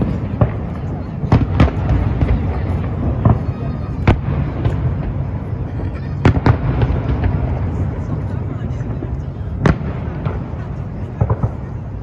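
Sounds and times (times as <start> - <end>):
crowd noise: 0.0 - 12.0
fireworks bangs: 0.0 - 12.0.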